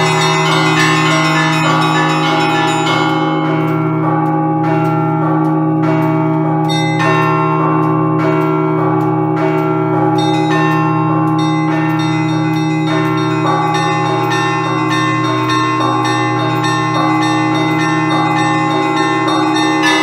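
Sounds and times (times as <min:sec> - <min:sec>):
deep bells humming: 0:00.0 - 0:20.0
high church bells striking: 0:00.0 - 0:20.0.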